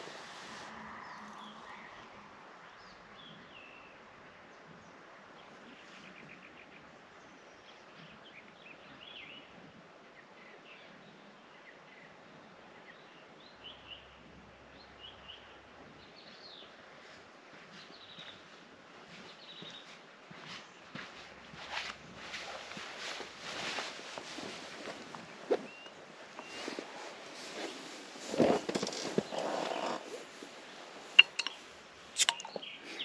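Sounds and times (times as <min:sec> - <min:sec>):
songbirds chirping and twittering: 0:00.0 - 0:33.0
steady outdoor hiss: 0:00.0 - 0:33.0.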